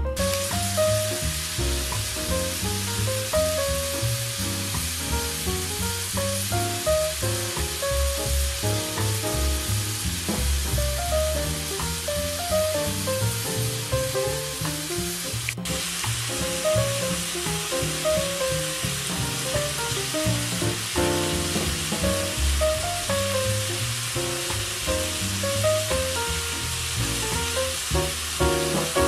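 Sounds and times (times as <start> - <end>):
background music: 0.0 - 29.0
vegetables sizzling in a pot: 0.2 - 29.0.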